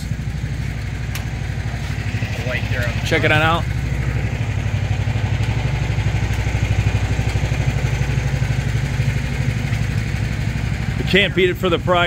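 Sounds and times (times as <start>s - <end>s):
excavator engine idling: 0.0s - 12.0s.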